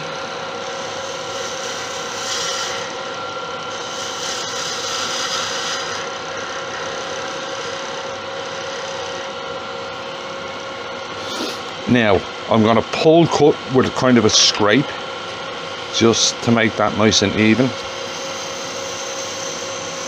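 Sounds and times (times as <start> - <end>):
wood lathe humming: 0.0 - 20.0
turning tool cutting hiss: 0.6 - 9.4, 11.1 - 15.1, 15.8 - 20.0.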